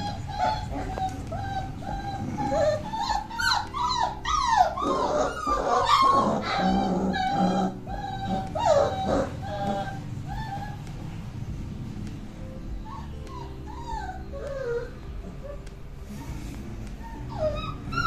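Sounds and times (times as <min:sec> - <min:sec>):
puppies whining and yelping: 0:00.0 - 0:11.5, 0:12.5 - 0:18.0.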